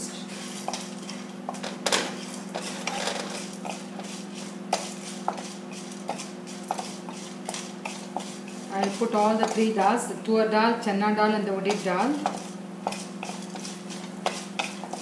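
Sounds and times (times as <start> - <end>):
spoon scraping pan: 0.3 - 10.0, 11.6 - 15.0.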